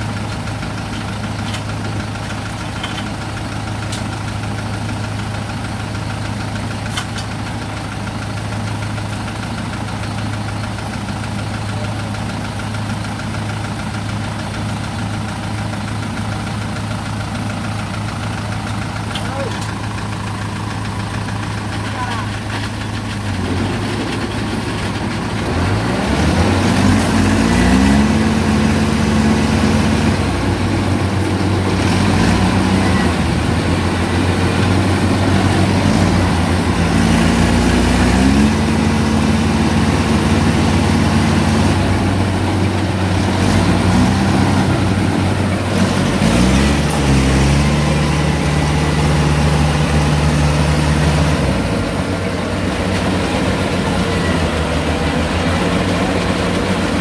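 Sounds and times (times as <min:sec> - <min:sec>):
steady low engine drone: 0:00.0 - 0:57.0
diesel engine revving: 0:09.8 - 0:57.0.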